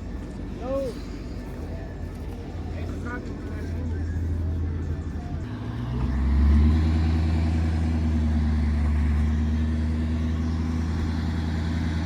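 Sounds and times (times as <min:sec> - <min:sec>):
car engine exhaust drone: 0:00.0 - 0:12.0.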